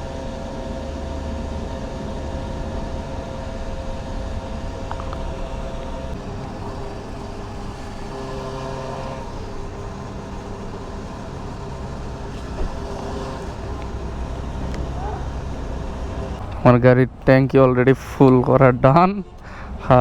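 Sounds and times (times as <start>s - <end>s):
fuel pump humming: 0.0s - 20.0s.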